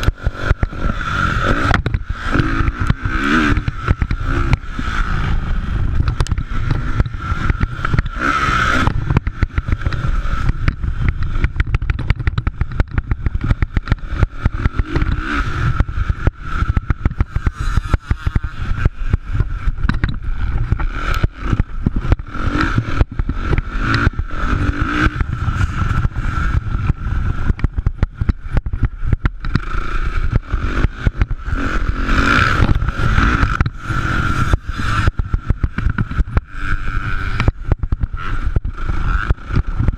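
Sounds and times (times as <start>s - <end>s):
constant crackle: 0.0s - 39.9s
dirt bike engines revving: 0.0s - 39.9s
heavy low rumble: 0.0s - 39.9s.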